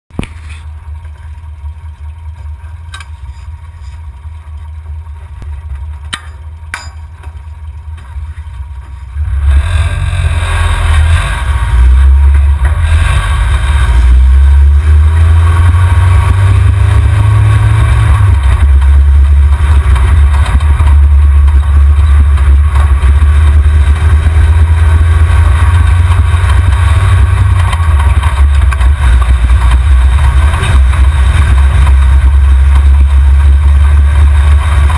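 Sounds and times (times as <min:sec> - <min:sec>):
truck engine idling: 0:00.1 - 0:34.9
truck engine revving and driving: 0:00.1 - 0:34.9.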